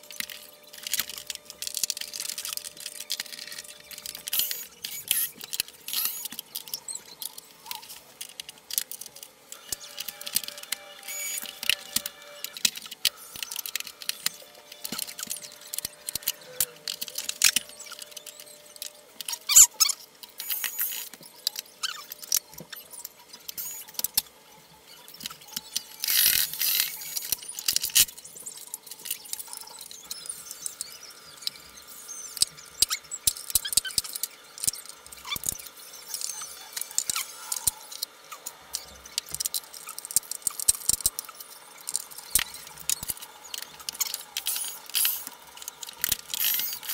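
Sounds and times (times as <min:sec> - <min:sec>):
small squeaks: 0:00.0 - 0:46.9.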